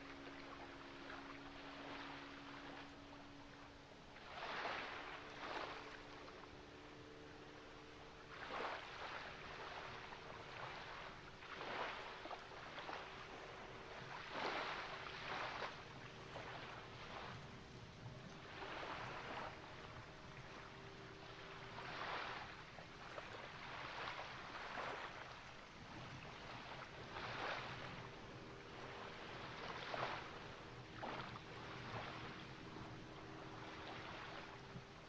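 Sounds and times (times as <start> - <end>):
faint steady hum: 0.0 - 35.0
ocean waves washing in: 0.0 - 35.0.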